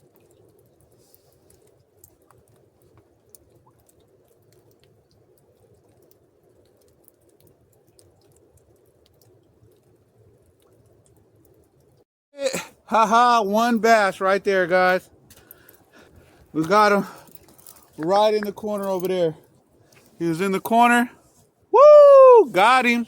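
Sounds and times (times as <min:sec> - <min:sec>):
faint background noise: 0:00.0 - 0:23.0.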